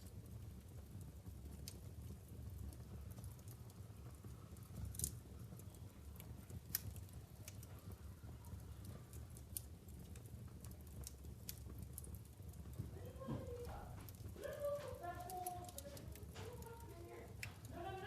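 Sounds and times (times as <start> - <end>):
low steady fire rumble: 0.0 - 18.0
wood fire crackling and popping: 0.0 - 18.0.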